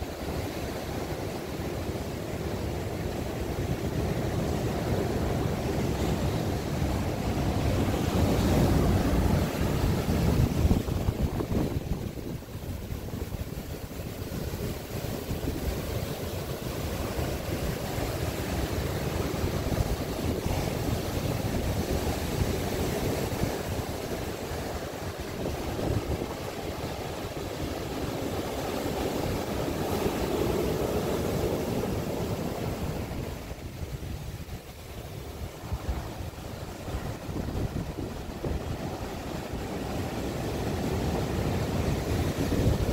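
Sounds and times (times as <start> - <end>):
ocean surf breaking on beach: 0.0 - 42.9
wind rumble on microphone: 0.0 - 42.9.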